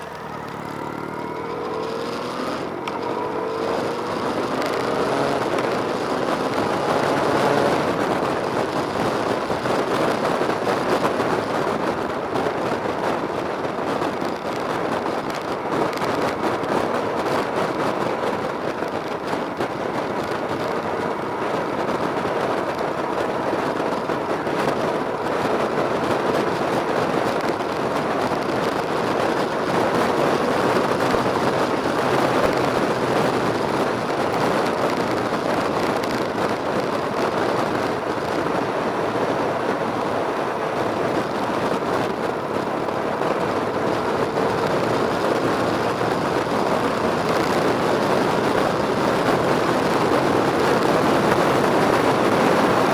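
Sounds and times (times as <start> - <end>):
motorcycle engine running: 0.0 - 52.9
road and wind noise: 0.0 - 52.9.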